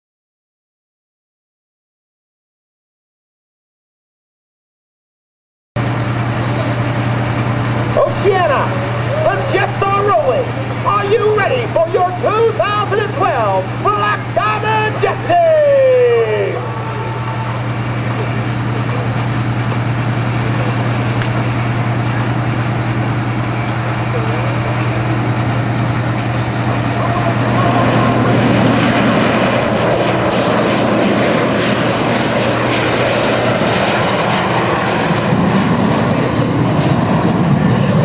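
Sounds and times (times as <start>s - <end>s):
jet aircraft taking off: 5.8s - 38.0s
steady low hum: 5.8s - 38.0s.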